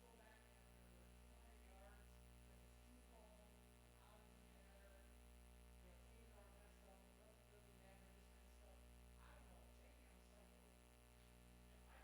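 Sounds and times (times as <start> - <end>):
faint low electrical hum: 0.0 - 12.0.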